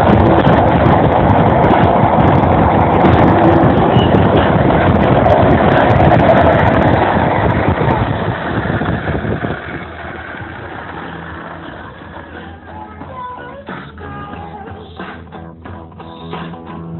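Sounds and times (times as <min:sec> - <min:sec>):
car road noise: 0:00.0 - 0:16.9
rushing wind: 0:00.0 - 0:16.9.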